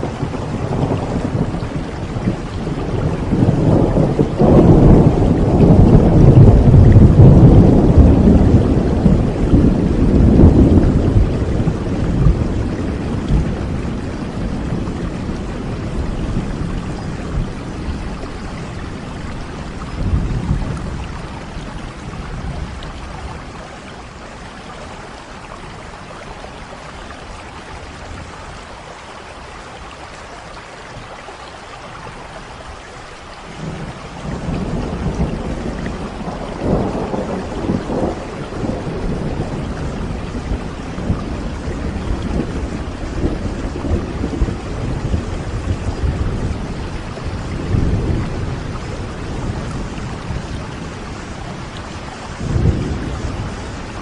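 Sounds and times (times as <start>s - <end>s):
thunder rumbling: 0.0s - 28.9s, 32.4s - 54.0s
steady rain: 0.0s - 54.0s.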